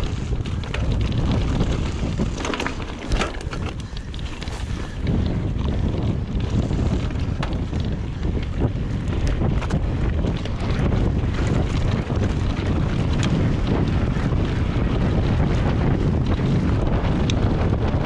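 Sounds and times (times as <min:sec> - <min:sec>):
tyre noise on dirt: 0:00.0 - 0:15.0
bike knocks and rattles: 0:00.0 - 0:18.0
wind rushing over microphone: 0:00.0 - 0:18.0.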